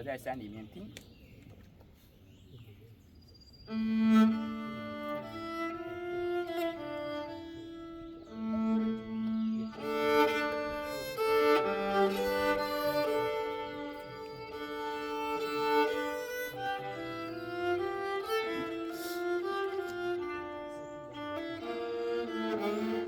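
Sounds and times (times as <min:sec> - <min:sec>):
bowed keyed fiddle folk tune: 0:03.7 - 0:23.0.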